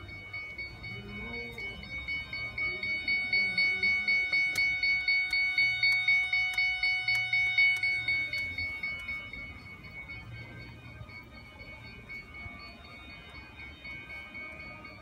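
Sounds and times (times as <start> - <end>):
rapid high electronic beeps: 0.0 - 15.0.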